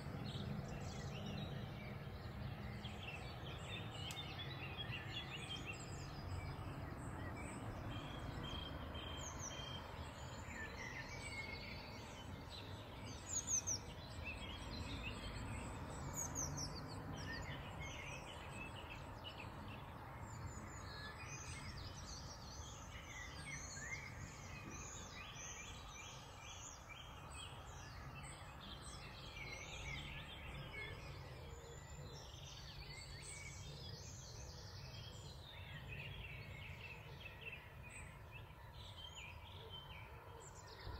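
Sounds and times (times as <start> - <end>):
songbirds singing and chirping: 0.0 - 40.9.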